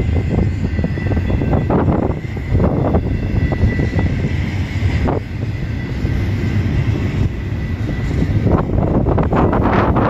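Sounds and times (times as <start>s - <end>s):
high-pitched wheel squeal: 0.0s - 10.0s
train rumbling on rails: 0.0s - 10.0s.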